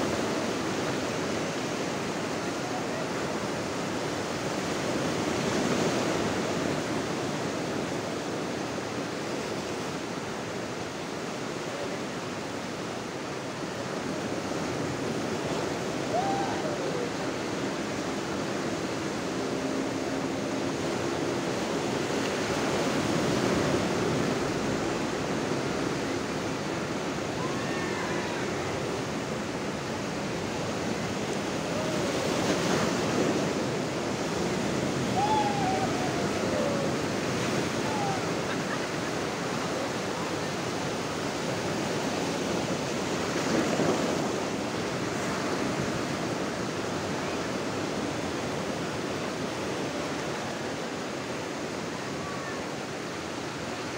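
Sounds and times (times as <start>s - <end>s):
waves breaking on sandy beach: 0.0s - 53.9s.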